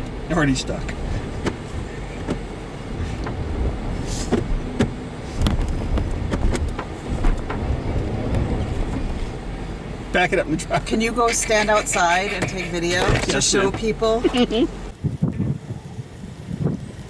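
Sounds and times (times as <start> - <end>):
car engine running: 0.0 - 15.2.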